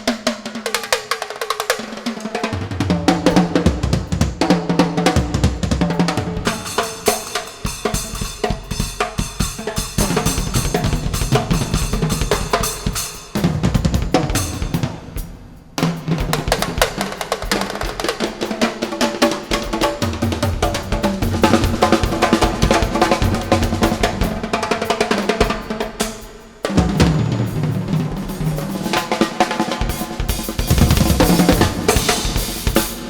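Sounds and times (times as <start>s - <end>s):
instrumental music with drum kit: 0.0s - 33.0s.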